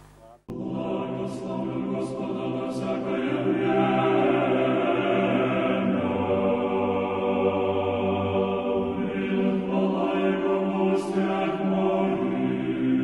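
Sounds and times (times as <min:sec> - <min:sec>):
choir singing slow chords: 0:00.2 - 0:13.0.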